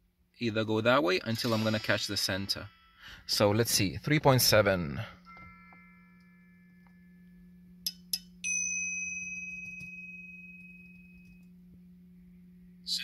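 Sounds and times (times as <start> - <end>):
steady low hum: 0.0 - 13.0
bell-like ting: 1.4 - 13.0.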